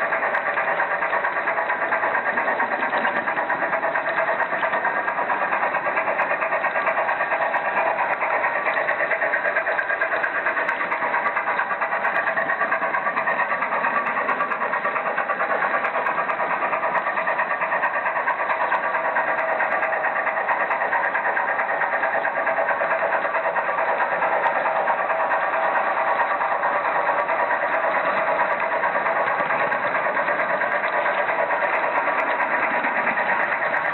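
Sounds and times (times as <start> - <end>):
model train wheels rumbling: 0.0 - 33.9.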